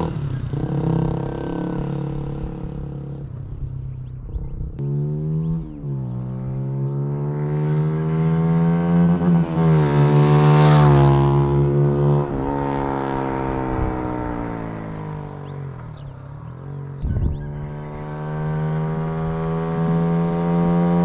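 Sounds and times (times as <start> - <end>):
motorcycle accelerating past: 0.0 - 16.1, 16.7 - 21.0.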